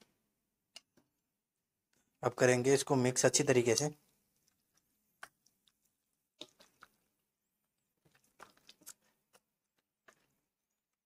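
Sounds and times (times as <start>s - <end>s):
hand kneading wet marinade: 1.8s - 11.0s.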